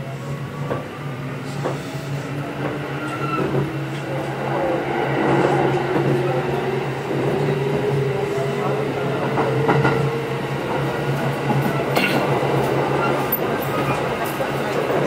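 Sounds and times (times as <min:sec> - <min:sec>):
low train hum: 0:00.0 - 0:15.0.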